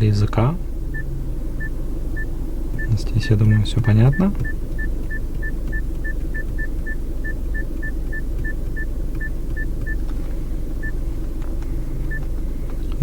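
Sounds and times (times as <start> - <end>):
car cabin low rumble: 0.0 - 13.0.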